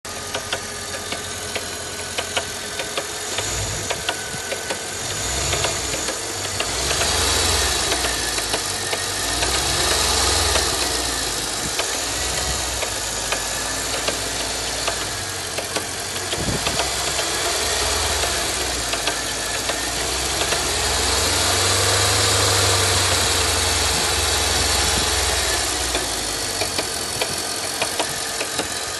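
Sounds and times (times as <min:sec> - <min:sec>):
car engine running: 0:00.1 - 0:28.9
sharp engine ticks: 0:00.2 - 0:28.9.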